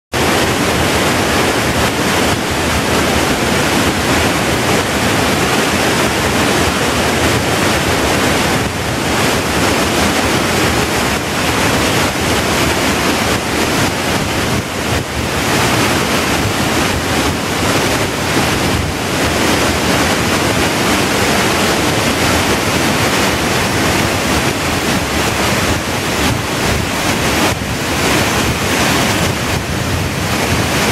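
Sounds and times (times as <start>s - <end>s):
waterfall rushing and splashing: 0.1s - 30.9s.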